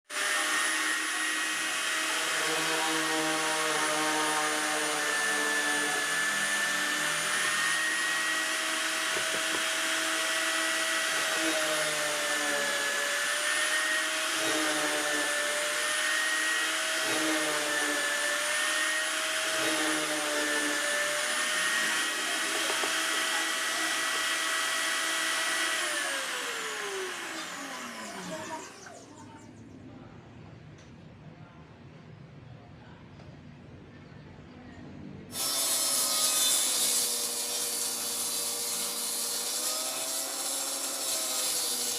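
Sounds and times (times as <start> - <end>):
power tool motor whining: 0.1 - 29.2, 35.3 - 41.9.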